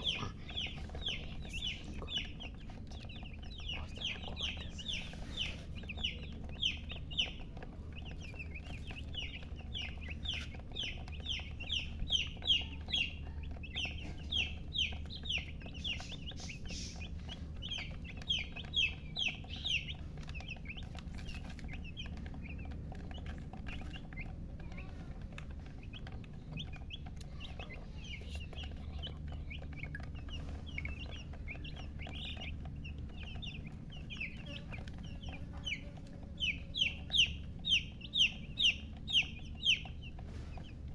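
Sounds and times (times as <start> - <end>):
chicks peeping: 0.0 - 40.9
low steady hum: 0.0 - 40.9.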